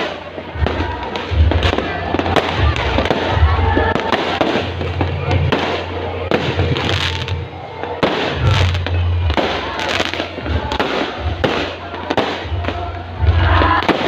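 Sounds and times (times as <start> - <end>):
fireworks cracks and booms: 0.0 - 14.0.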